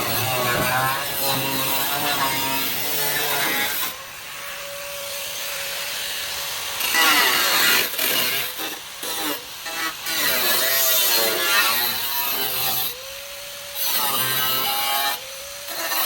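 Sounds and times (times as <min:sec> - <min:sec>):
power tool cutting metal: 0:00.0 - 0:16.0.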